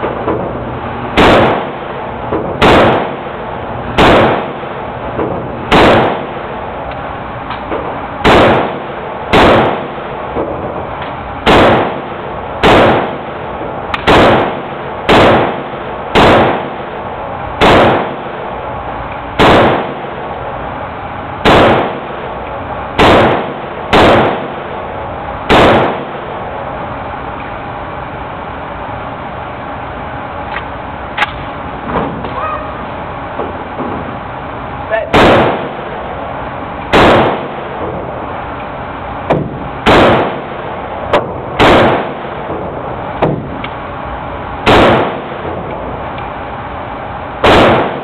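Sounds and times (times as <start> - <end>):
rifle shots echoing indoors: 0.0 - 10.8, 11.4 - 18.7, 19.3 - 20.4, 21.4 - 27.4, 31.2 - 38.0, 38.9 - 43.6, 44.5 - 45.6, 47.3 - 48.0
steady background noise: 0.0 - 48.0.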